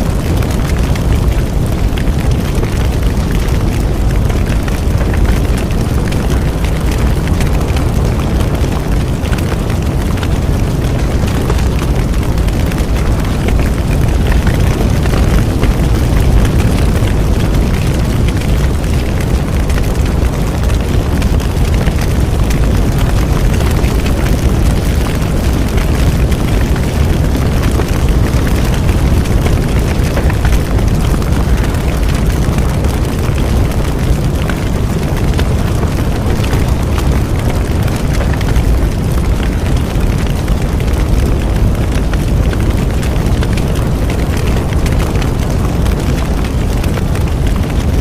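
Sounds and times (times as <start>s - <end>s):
bonfire flames rumbling: 0.0s - 48.0s
fire crackling and popping: 0.0s - 48.0s.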